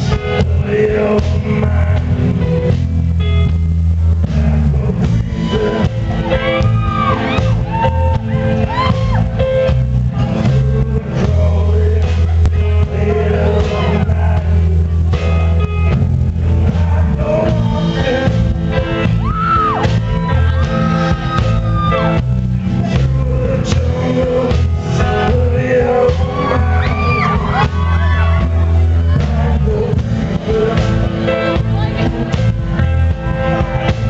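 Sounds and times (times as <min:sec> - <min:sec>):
person singing lead vocal: 0:00.0 - 0:03.2, 0:04.1 - 0:34.0
rock band playing: 0:00.0 - 0:34.0.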